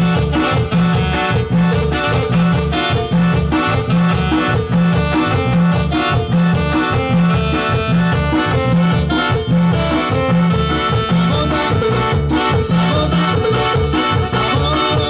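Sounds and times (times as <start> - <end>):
live band playing dance music: 0.0 - 15.0
pulsing bass line: 0.0 - 15.0.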